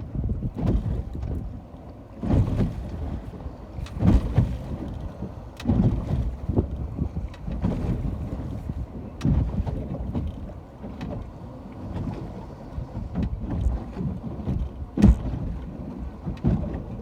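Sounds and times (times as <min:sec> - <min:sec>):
wind buffeting microphone: 0:00.0 - 0:17.0
seawater washing and slapping: 0:00.4 - 0:17.0.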